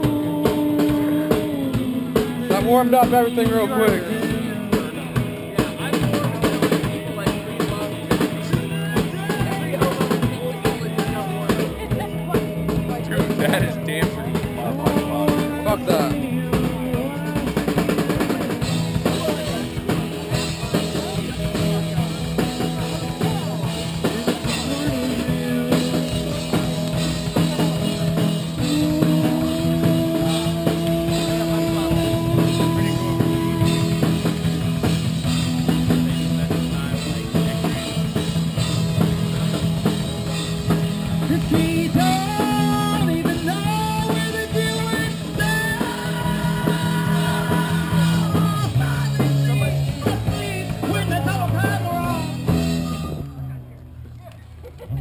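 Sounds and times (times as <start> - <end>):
rock music with singing: 0.0 - 53.8.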